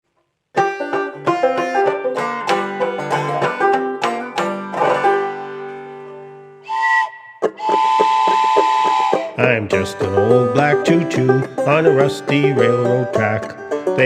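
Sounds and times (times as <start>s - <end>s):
banjo plucked notes: 0.5s - 14.0s.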